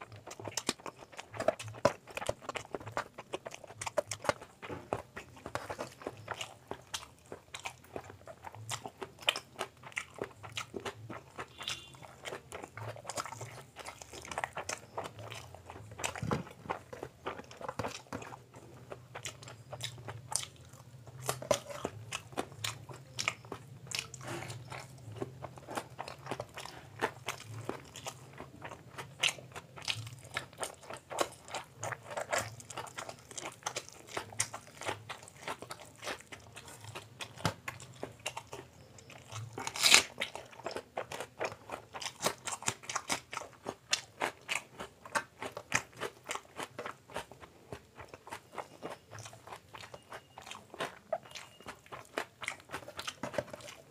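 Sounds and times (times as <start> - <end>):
chewing and biting food: 0.0 - 53.9.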